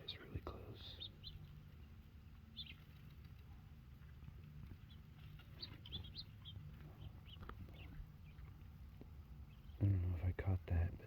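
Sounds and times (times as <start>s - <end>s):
songbirds chirping faintly: 0.0s - 11.0s.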